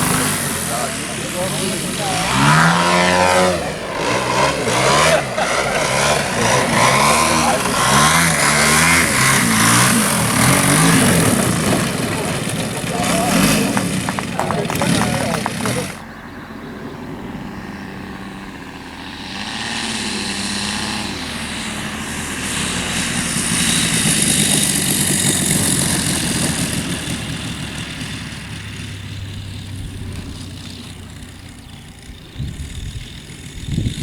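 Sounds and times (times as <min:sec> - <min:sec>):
propeller airplane flying by: 0:00.0 - 0:34.0.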